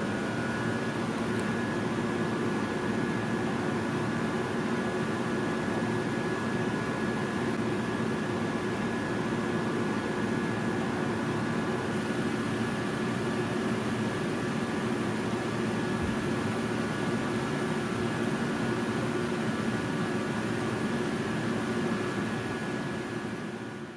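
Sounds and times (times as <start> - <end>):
steady mechanical hum and whir: 0.0 - 23.9.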